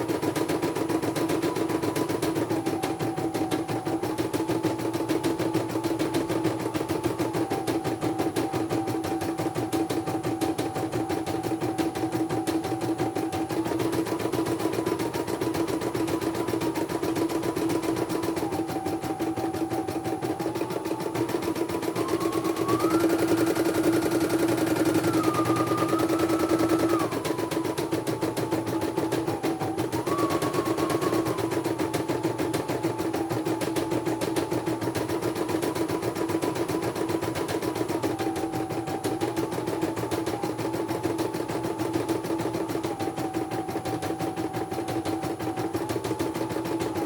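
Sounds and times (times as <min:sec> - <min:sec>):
embroidery machine stitching: 0:00.0 - 0:43.8.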